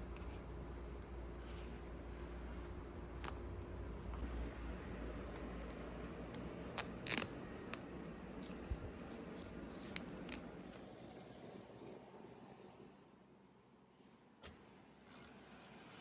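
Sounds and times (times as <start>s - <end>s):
low steady hum: 0.0s - 14.6s.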